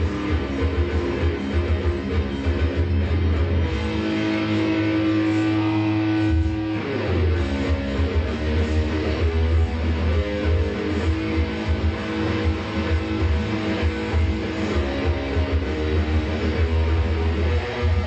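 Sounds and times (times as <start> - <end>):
electric guitar heavy riff: 0.0 - 18.0.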